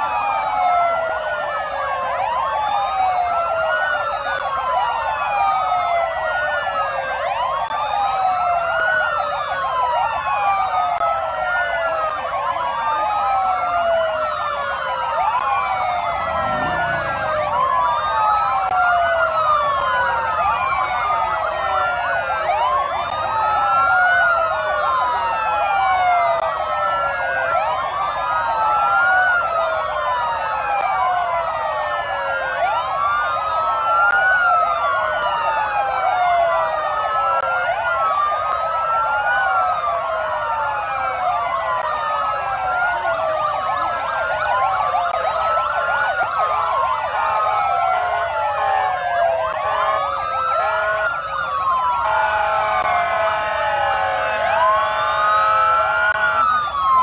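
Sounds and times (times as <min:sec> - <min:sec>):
police sirens wailing: 0:00.0 - 0:57.0.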